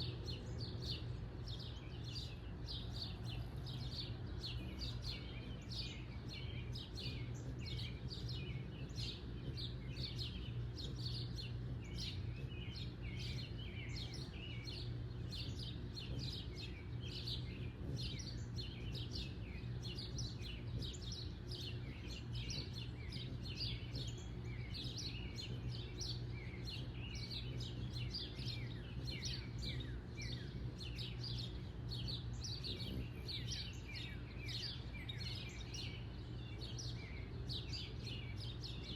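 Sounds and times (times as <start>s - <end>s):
small birds chirping: 0.0s - 38.9s
steady low hum: 0.0s - 38.9s.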